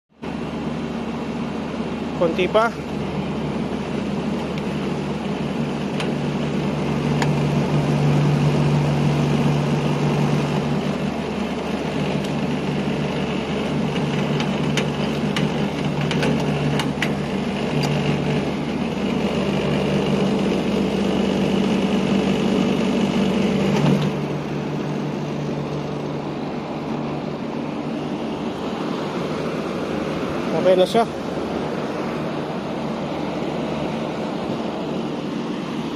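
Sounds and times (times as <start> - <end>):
air conditioning unit humming: 0.2 - 35.9.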